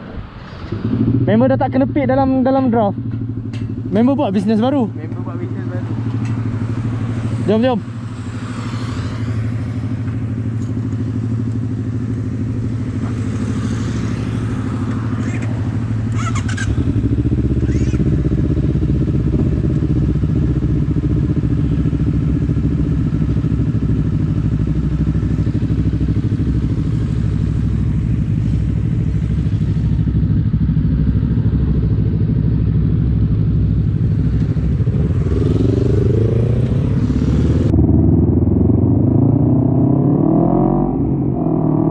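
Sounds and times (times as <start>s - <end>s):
motorcycle engine riding: 0.2s - 41.9s.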